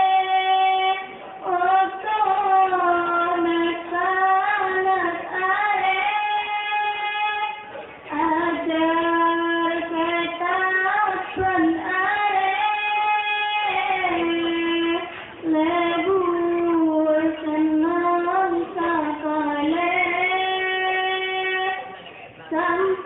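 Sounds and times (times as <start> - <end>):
girl singing: 0.0 - 21.9, 22.5 - 23.0.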